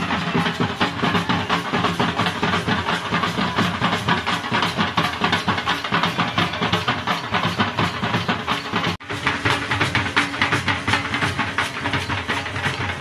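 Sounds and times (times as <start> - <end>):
barrel drums beating fast: 0.0 - 13.0.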